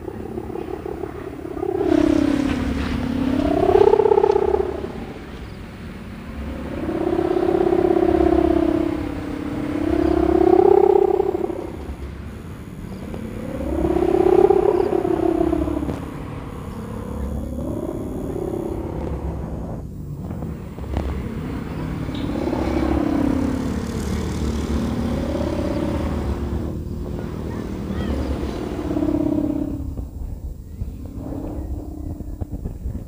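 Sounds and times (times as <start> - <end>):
kite hummer humming in wind: 0.0 - 33.0.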